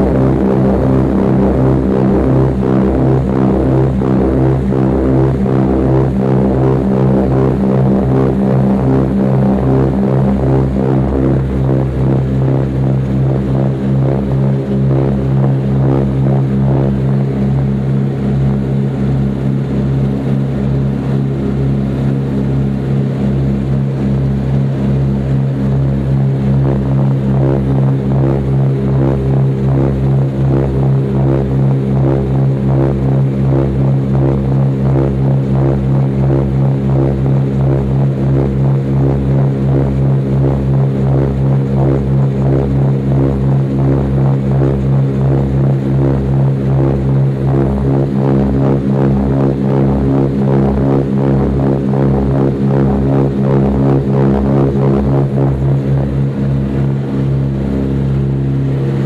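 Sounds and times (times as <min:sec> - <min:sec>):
propeller plane engines droning: 0:00.0 - 0:59.0.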